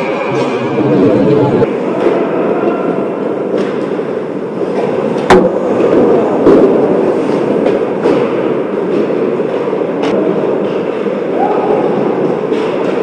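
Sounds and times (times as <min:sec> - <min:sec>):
skates scraping ice: 0:01.8 - 0:13.0.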